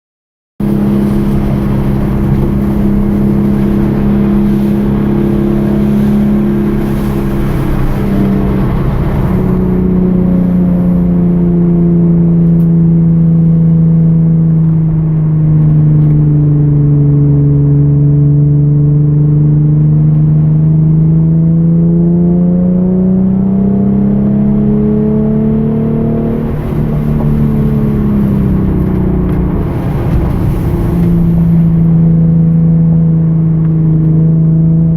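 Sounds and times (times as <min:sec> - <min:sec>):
car engine running hard: 0:00.6 - 0:34.9.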